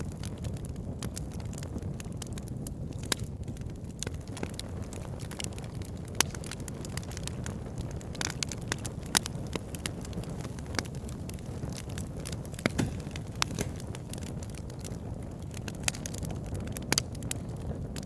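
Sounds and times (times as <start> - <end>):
firewood crackling and popping: 0.0 - 18.0
low fire rumble: 0.0 - 18.0.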